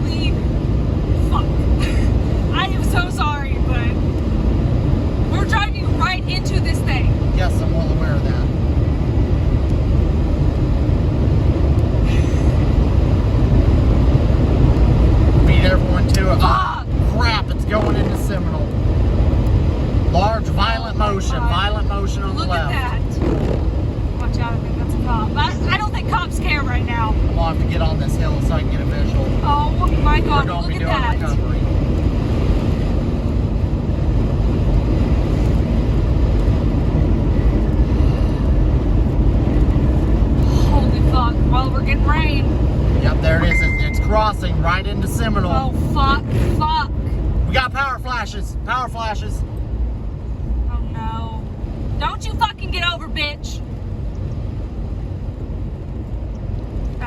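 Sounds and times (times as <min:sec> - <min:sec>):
vehicle road and engine noise: 0:00.0 - 0:57.0.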